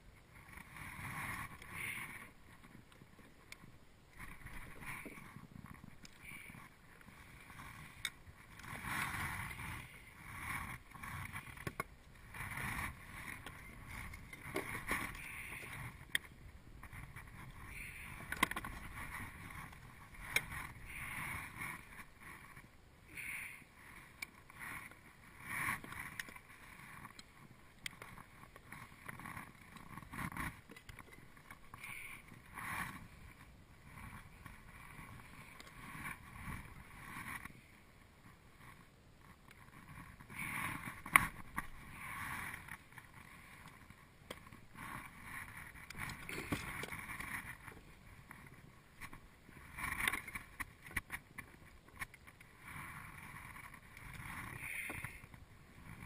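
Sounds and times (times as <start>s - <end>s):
gear swishing and rustling: 0.4s - 22.7s, 23.8s - 56.0s.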